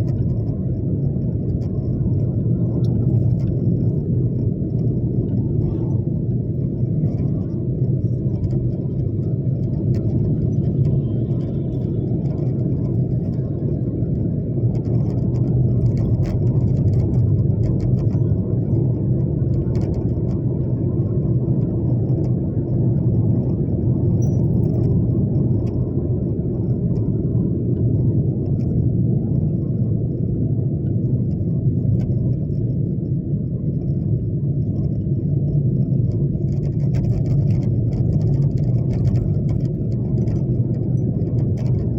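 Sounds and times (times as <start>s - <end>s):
steady low rumble: 0.0s - 41.9s.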